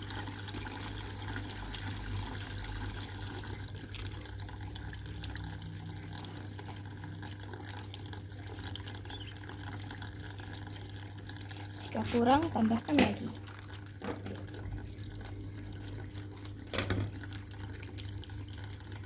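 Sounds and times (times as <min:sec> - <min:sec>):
washing machine filling with water: 0:00.0 - 0:19.0.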